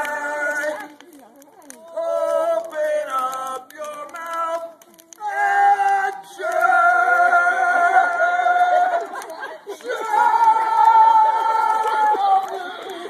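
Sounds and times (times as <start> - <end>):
group singing a cappella: 0.0 - 0.9, 2.0 - 13.0.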